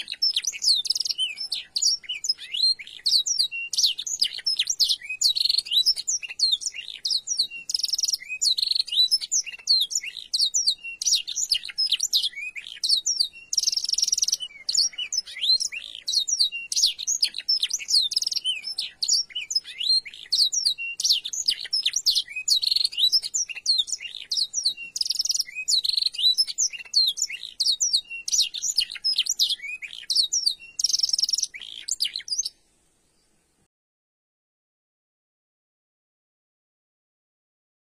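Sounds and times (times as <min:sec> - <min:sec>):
canary singing: 0:00.0 - 0:32.6.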